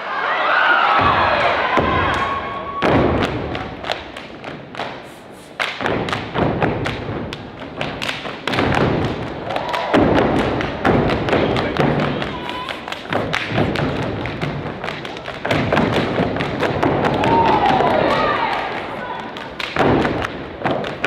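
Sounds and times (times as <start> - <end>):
rhythmic foot stomps: 0.9 - 21.0
hand claps and slaps: 2.9 - 21.0.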